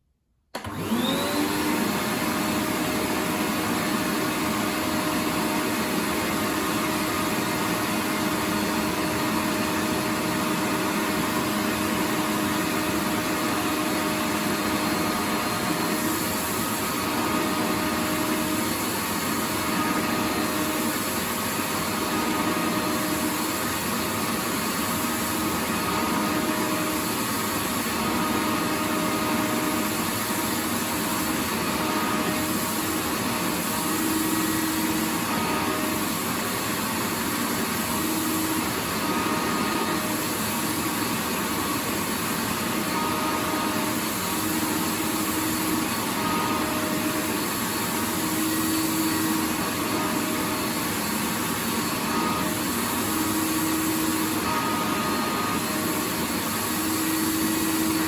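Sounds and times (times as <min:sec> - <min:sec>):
vacuum cleaner running: 0:00.5 - 0:58.0.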